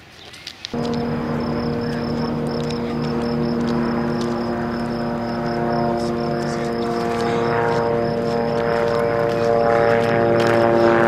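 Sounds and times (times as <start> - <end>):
propeller plane droning overhead: 0.8 - 11.0.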